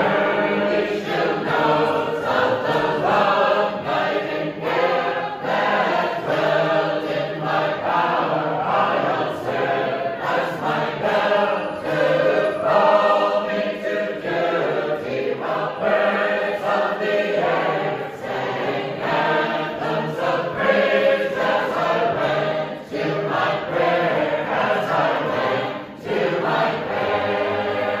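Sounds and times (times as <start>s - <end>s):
choir singing a hymn unaccompanied: 0.0s - 28.0s.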